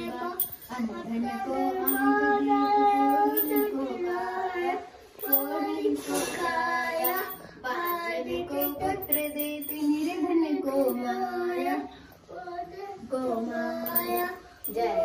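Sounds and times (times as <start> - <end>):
girl singing devotional song: 0.0 - 15.0.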